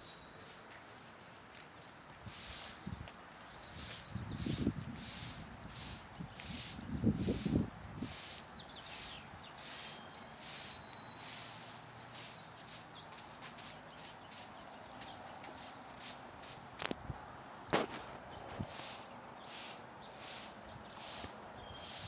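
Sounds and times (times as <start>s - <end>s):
stiff broom sweeping concrete: 0.0s - 1.4s, 2.1s - 16.9s, 17.7s - 22.0s.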